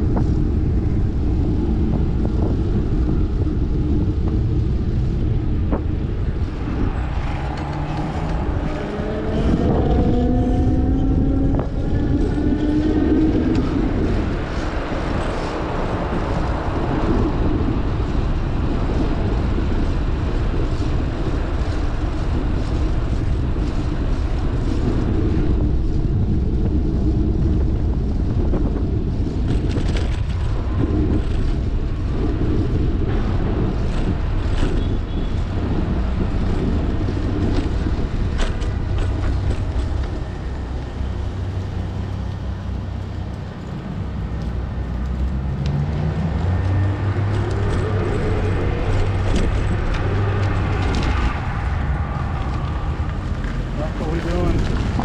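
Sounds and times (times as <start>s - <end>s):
bicycle road rumble: 0.0s - 55.0s
traffic: 0.0s - 55.0s
wind rushing over microphone: 0.0s - 55.0s.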